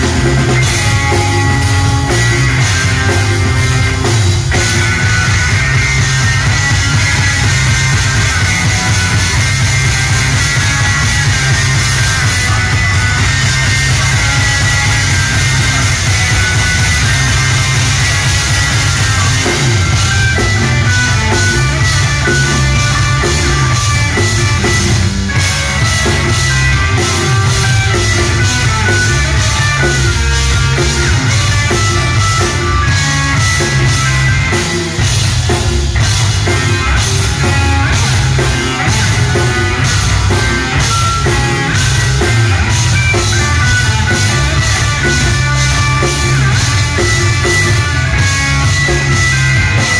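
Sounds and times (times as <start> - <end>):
drum kit beat: 0.0 - 49.9
electric guitars: 0.0 - 49.9.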